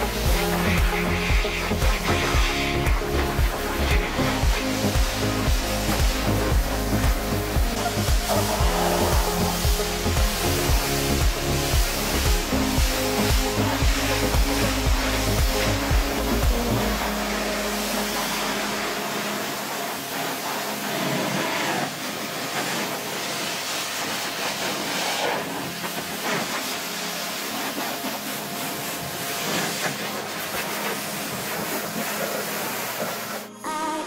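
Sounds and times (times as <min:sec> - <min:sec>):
pressure washer spraying: 0:00.0 - 0:33.6.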